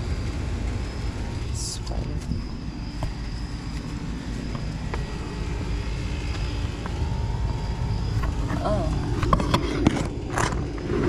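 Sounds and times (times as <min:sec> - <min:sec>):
air conditioning units droning: 0:00.0 - 0:11.0
faint steady hum tone: 0:00.0 - 0:11.0.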